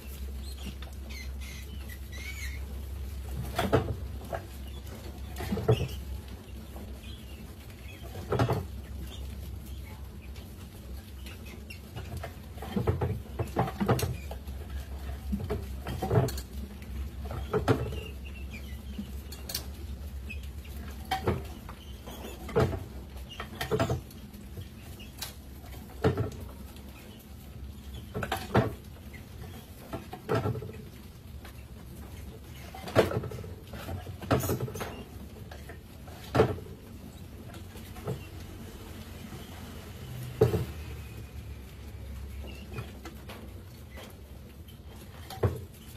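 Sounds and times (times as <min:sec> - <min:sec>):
rats scurrying: 0:00.0 - 0:45.9.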